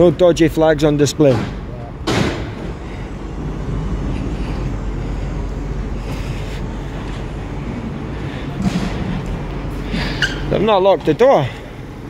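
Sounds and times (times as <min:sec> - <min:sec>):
low street noise rumble: 0:00.0 - 0:12.0.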